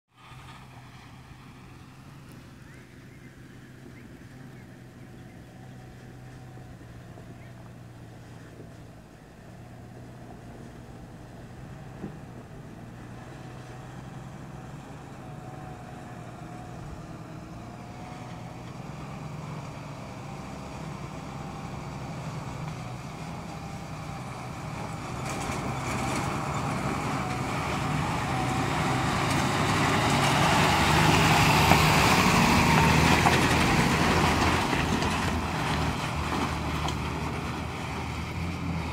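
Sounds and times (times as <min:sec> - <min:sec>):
truck diesel engine passing: 0:00.1 - 0:38.9
tyres on gravel: 0:00.2 - 0:38.9.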